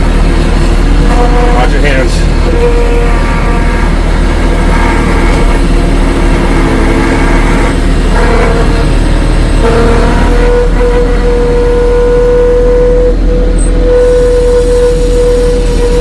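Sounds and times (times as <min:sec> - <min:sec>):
tractor engine working hard: 0:00.0 - 0:16.0.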